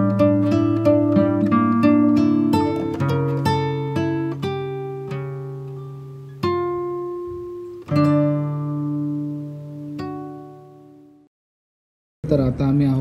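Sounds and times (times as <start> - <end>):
acoustic guitar playing: 0.0 - 11.3.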